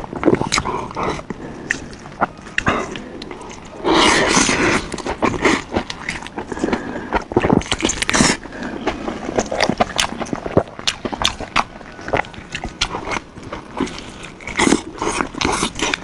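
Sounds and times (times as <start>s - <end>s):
wet chewing and lip smacks: 0.0s - 16.0s.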